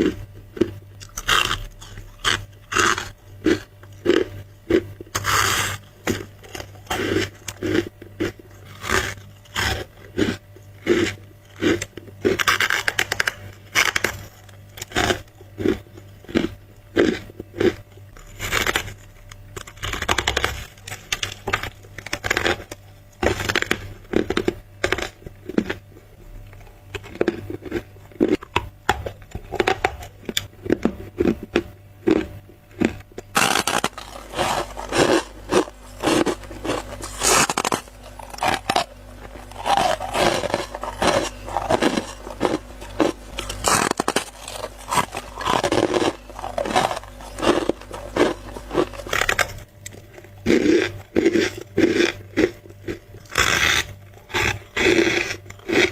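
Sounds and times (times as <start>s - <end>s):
ice crunching between teeth: 0.0s - 55.9s.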